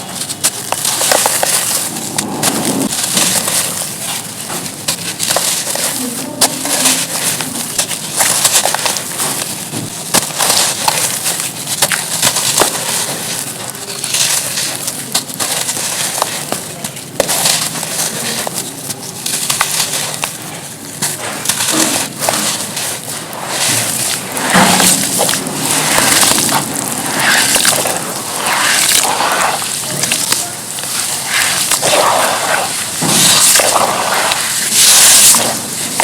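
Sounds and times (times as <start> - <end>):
charcoal crunching and cracking: 0.0 - 36.0.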